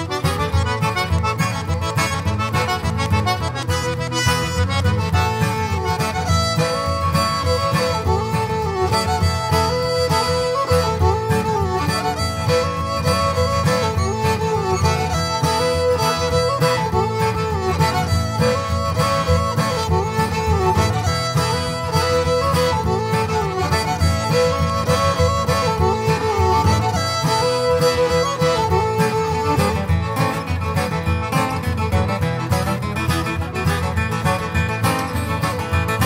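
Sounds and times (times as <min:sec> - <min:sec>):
fiddle melody with sliding notes: 0:00.0 - 0:36.0
guitar accompaniment: 0:00.0 - 0:36.0.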